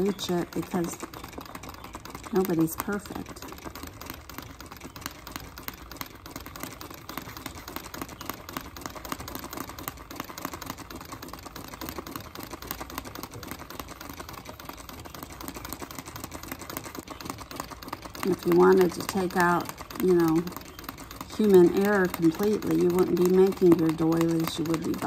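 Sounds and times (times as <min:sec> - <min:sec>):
sewing machine stitching: 0:00.0 - 0:25.0.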